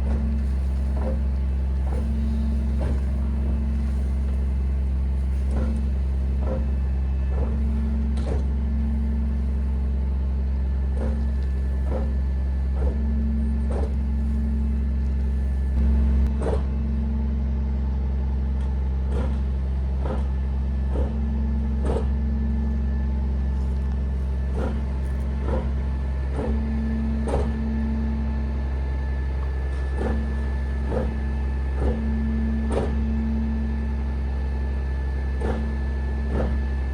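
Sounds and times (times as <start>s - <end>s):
diesel truck engine droning: 0.0s - 16.4s, 17.0s - 36.9s.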